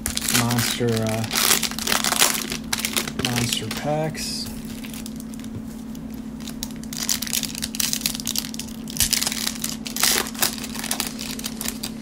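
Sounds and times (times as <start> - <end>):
foil wrapper crinkling: 0.0 - 5.5, 6.4 - 12.0.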